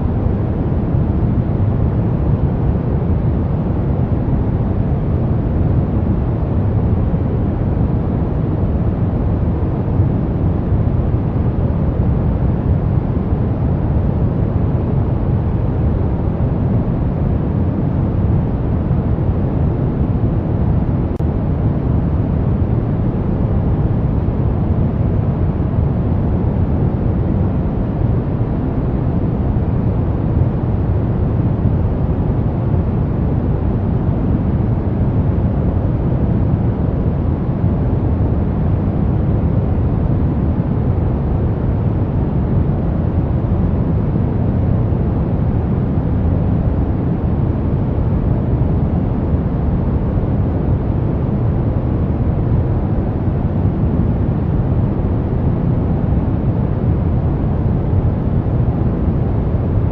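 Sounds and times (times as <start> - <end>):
brown noise hiss: 0.0 - 59.9.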